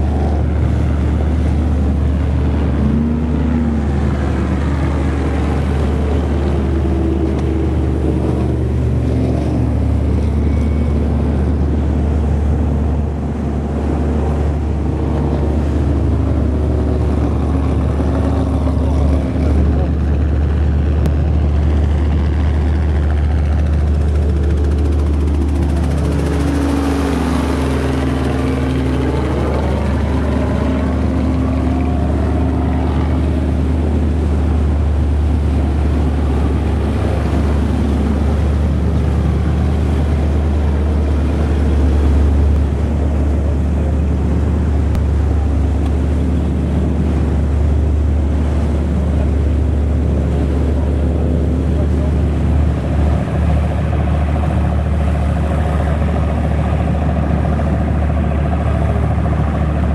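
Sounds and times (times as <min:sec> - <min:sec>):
boat engine droning: 0:00.0 - 0:59.9
helicopter passing overhead: 0:00.0 - 0:59.9
water and wind noise: 0:00.0 - 0:59.9.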